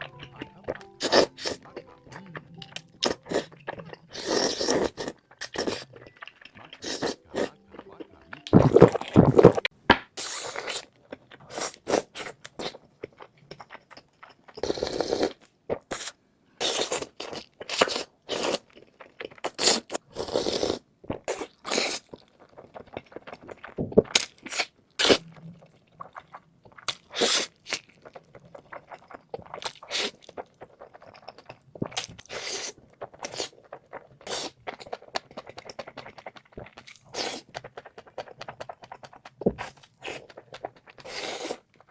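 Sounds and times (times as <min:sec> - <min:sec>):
crunching and chewing food: 0:00.0 - 0:41.9.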